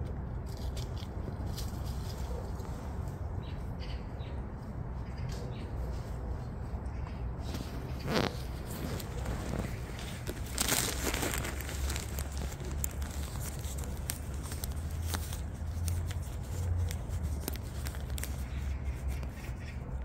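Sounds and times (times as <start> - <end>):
light crackling and crinkling: 0.0 - 3.4, 7.4 - 20.0
steady low rumble: 0.0 - 20.0.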